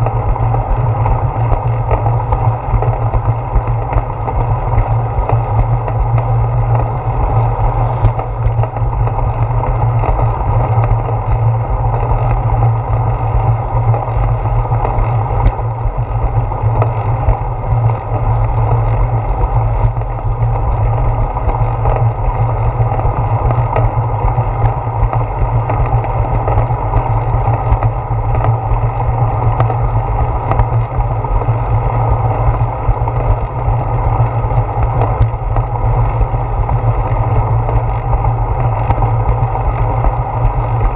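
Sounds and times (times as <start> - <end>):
bicycle rolling on concrete: 0.0 - 40.9
wind rumble: 0.0 - 40.9.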